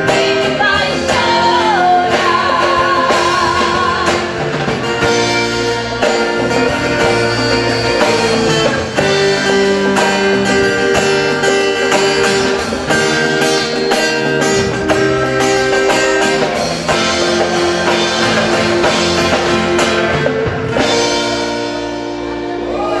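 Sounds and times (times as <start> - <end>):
guitar held notes: 0.0 - 23.0
live band playing: 0.0 - 23.0.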